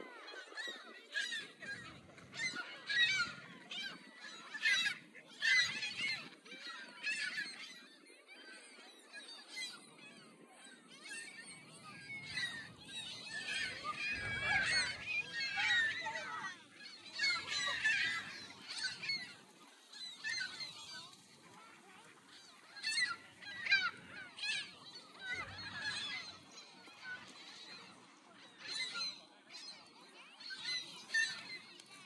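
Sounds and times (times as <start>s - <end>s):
gulls calling: 0.0s - 32.0s.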